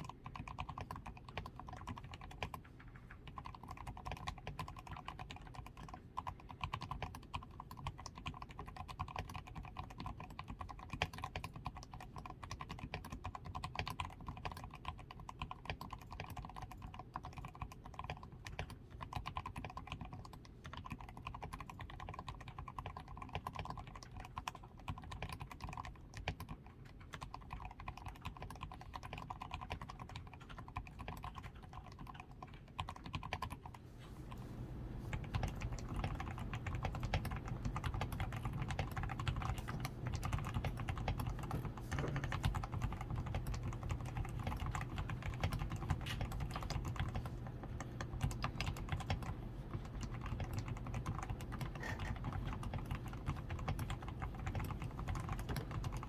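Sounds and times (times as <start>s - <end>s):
soft muted keyboard typing: 0.0s - 56.0s.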